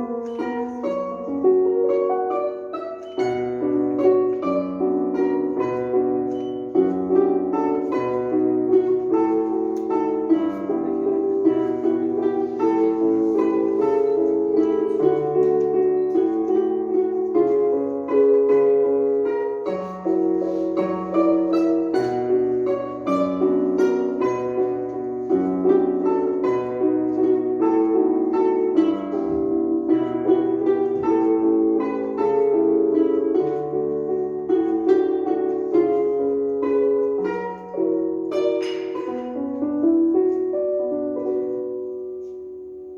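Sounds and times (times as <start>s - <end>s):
plucked instrument music: 0.0s - 42.9s.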